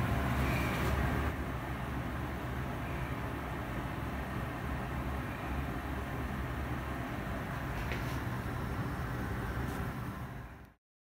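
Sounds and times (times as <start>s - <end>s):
rushing background noise: 0.0s - 10.8s.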